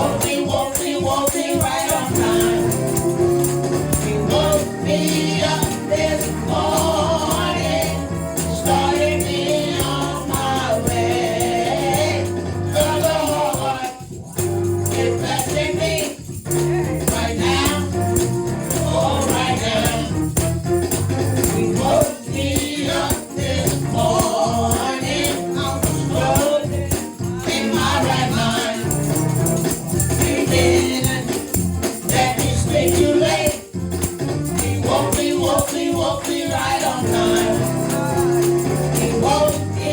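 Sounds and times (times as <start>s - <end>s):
group singing gospel music: 0.0s - 39.9s
shaken percussion beat: 0.0s - 39.9s.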